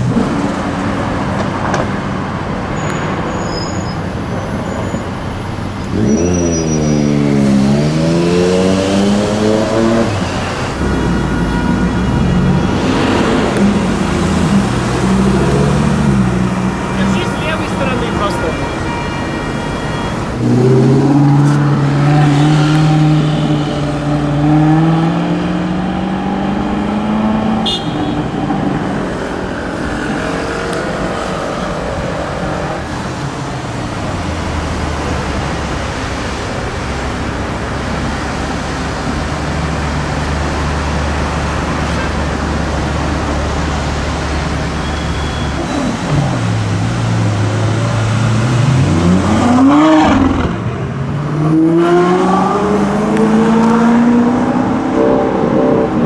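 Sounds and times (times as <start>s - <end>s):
city traffic hum: 0.0s - 56.0s.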